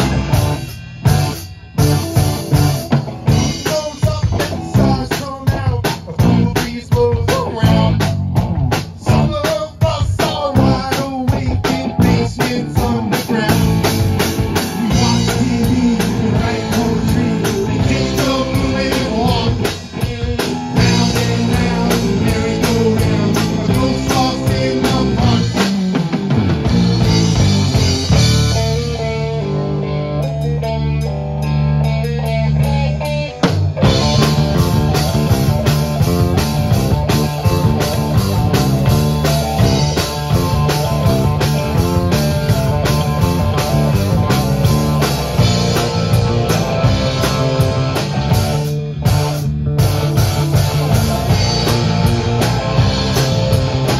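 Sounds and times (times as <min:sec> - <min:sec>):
drums and cymbals: 0:00.0 - 0:53.9
rock band playing: 0:00.0 - 0:53.9.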